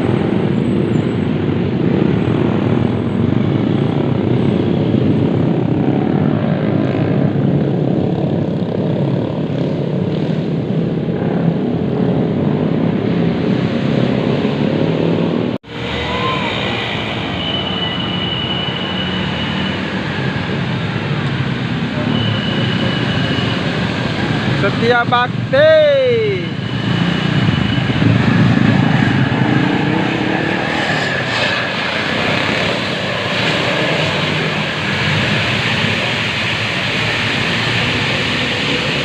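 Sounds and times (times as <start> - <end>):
bus engine and road noise: 0.0 - 39.0.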